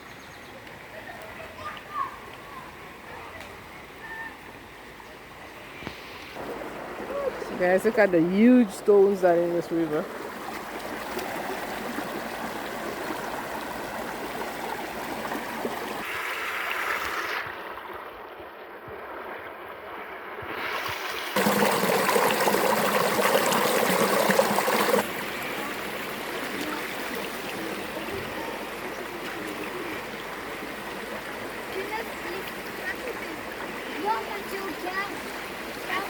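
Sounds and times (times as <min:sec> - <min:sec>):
river water flowing over stones: 0:06.0 - 0:36.0.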